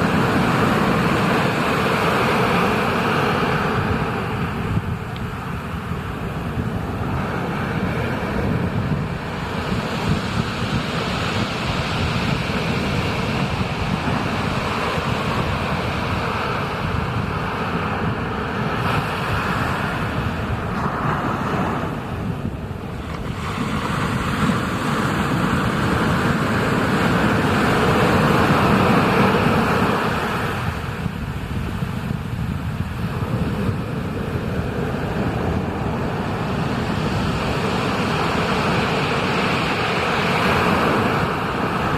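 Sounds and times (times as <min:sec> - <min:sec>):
ocean surf: 0:00.0 - 0:41.9
wind buffeting microphone: 0:00.0 - 0:41.9.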